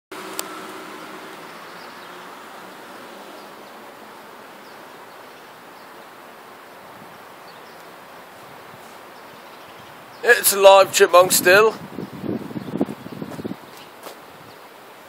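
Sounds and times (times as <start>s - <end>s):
outdoor background hiss: 0.1s - 15.0s.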